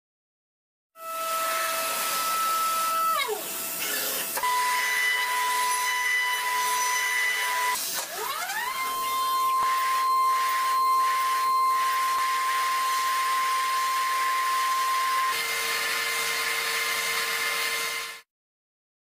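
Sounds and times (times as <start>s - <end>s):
milling spindle whine: 1.0s - 18.2s.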